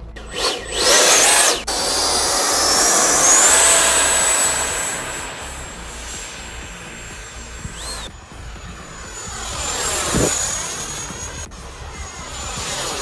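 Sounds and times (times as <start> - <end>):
ducted fan whine: 0.0 - 13.0.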